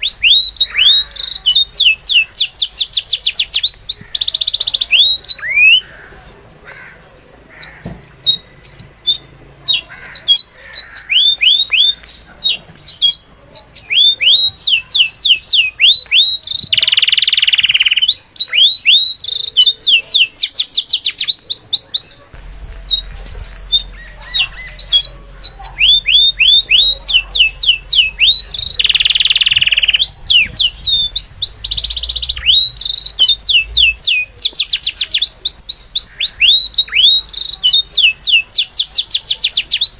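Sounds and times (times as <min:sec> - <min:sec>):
harsh bird squawks: 0:00.0 - 0:39.9
small birds chirping: 0:00.0 - 0:39.9.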